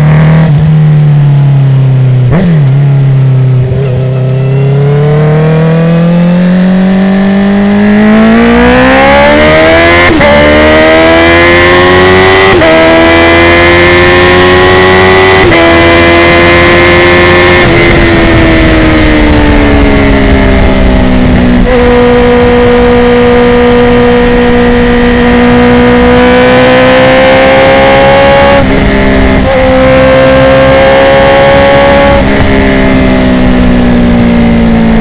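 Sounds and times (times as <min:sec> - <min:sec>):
motorcycle engine accelerating hard: 0:00.0 - 0:35.0.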